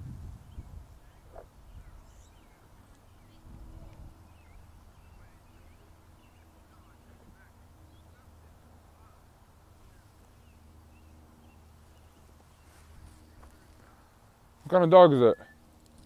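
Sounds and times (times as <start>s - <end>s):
low steady hum: 0.0s - 16.0s
distant bird calls: 0.4s - 16.0s.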